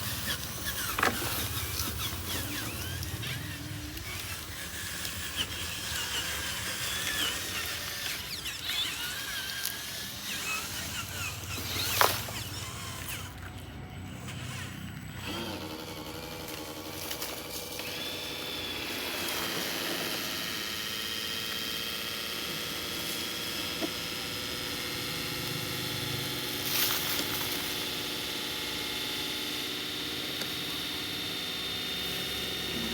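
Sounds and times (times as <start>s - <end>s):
small electric motors whining: 0.0s - 32.9s.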